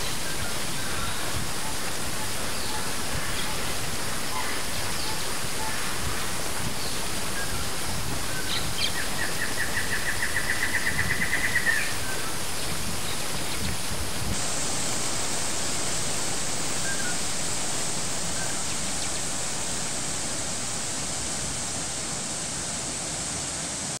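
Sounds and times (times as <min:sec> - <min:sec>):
waterfall rushing over rocks: 0:00.0 - 0:24.0.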